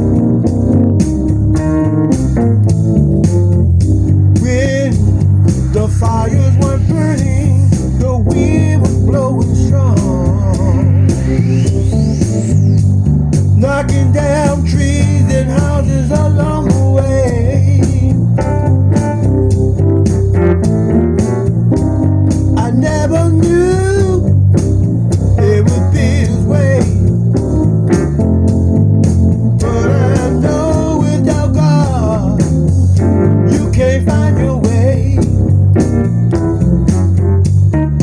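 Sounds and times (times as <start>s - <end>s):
guitar-led song: 0.0s - 12.6s, 13.5s - 38.0s
repeating bass line: 0.0s - 38.0s.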